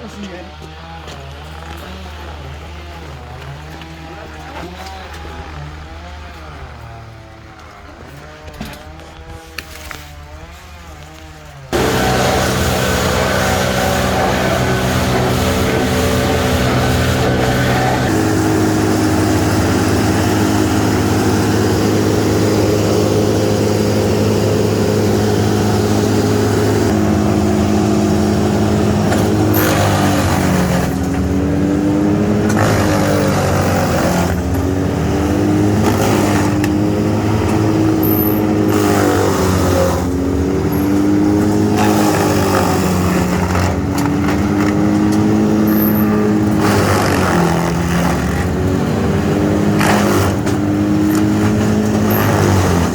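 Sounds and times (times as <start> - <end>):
wood chipper engine running: 0.0 - 52.9.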